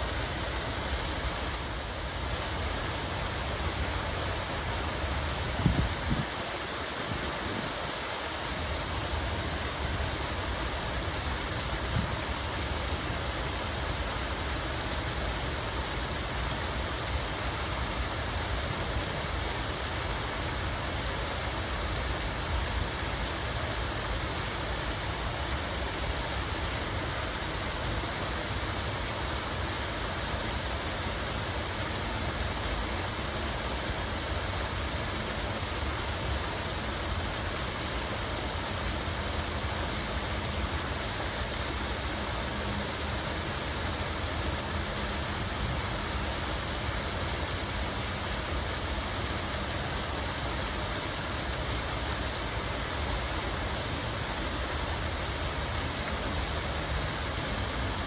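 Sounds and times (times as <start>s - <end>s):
running falling water: 0.0s - 58.0s.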